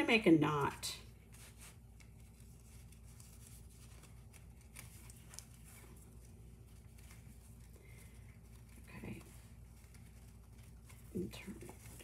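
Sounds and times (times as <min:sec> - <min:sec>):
low room hum: 0:00.0 - 0:12.0
hands rustling card and ribbon: 0:00.6 - 0:12.0.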